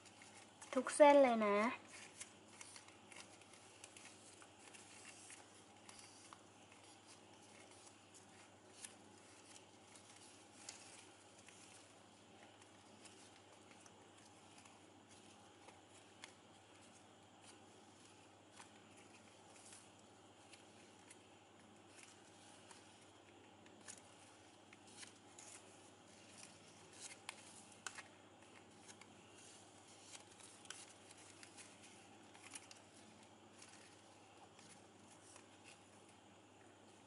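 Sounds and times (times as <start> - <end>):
ribbon strands crinkling: 0.0 - 36.2.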